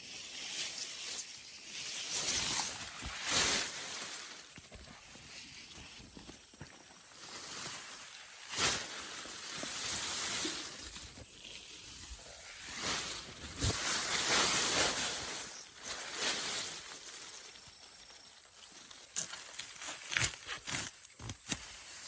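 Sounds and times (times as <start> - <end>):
grass rustling and swishing: 0.0 - 22.0.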